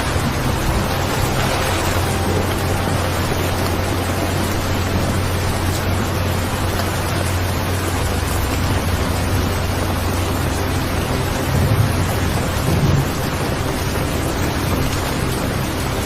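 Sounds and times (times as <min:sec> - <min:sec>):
heavy rainfall: 0:00.0 - 0:16.0
thunder rumbling: 0:00.0 - 0:16.0.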